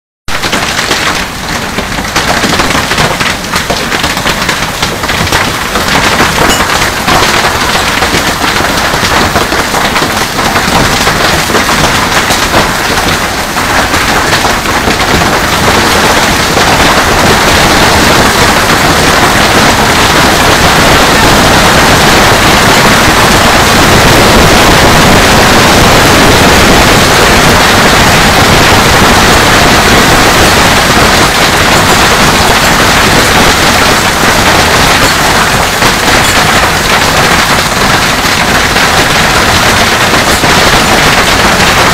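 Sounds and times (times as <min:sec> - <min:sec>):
hail clattering on pool and deck: 0:00.3 - 0:41.9.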